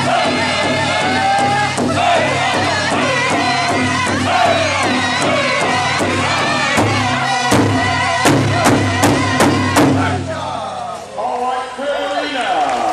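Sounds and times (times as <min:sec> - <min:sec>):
large hide drum beating: 0:00.0 - 0:10.7
men singing together: 0:00.0 - 0:11.1.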